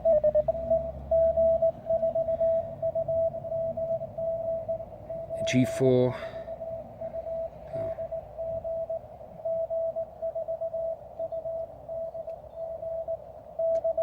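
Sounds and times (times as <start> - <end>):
morse code beeps: 0.0 - 14.0.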